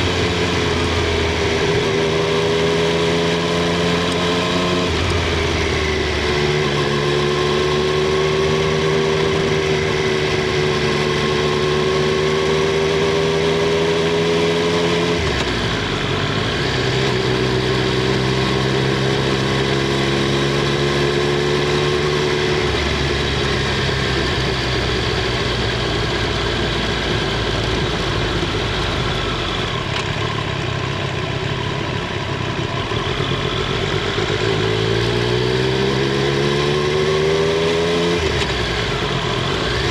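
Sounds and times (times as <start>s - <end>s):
motorcycle engine and exhaust running: 0.0s - 39.9s.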